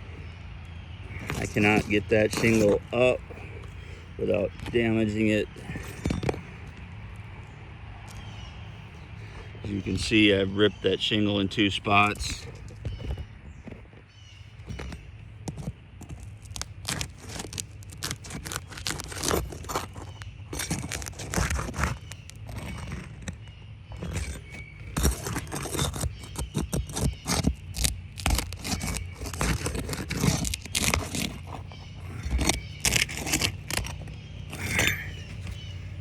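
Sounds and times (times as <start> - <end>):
hand tool scraping roof shingles: 1.0 - 7.4, 9.2 - 36.0.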